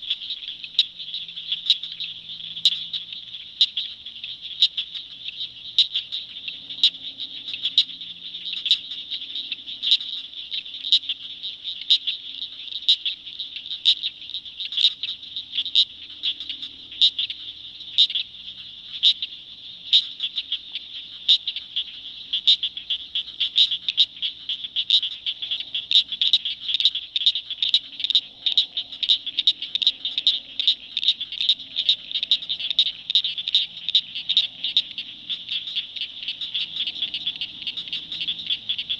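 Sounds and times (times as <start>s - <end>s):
frogs trilling: 0.0s - 38.9s
sharp frog calls: 0.0s - 38.9s.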